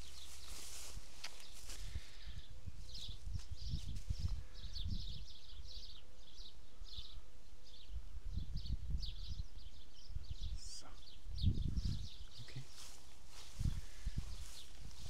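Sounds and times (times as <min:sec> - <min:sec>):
wind rumbling on microphone: 0:00.0 - 0:05.8, 0:07.9 - 0:15.0
small birds chirping: 0:00.0 - 0:15.0.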